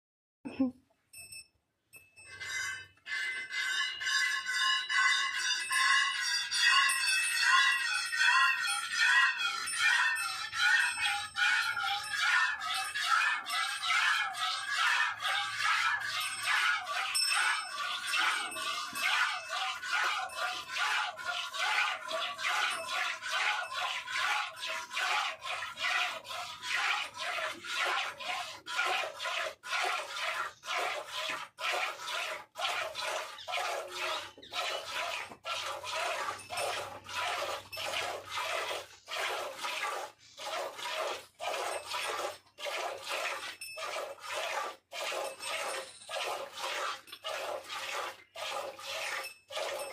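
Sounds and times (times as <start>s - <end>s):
cow tongue rasping on hair: 2.3s - 49.9s.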